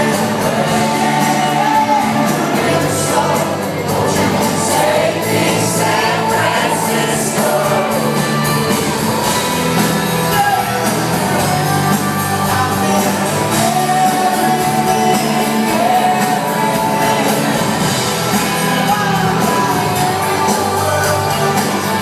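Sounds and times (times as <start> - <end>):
lead voice singing: 0.0 - 22.0
live pop-rock band playing: 0.0 - 22.0.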